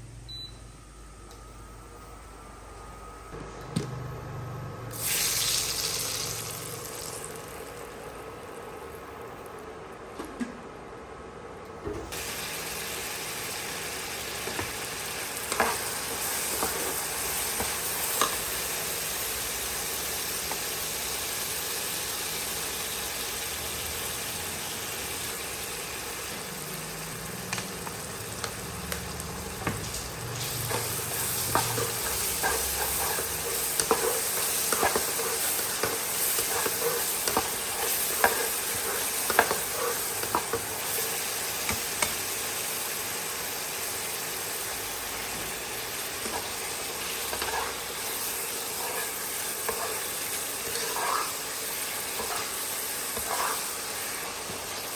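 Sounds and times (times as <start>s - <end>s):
food sizzling in a pan: 4.9s - 9.4s, 12.1s - 54.9s.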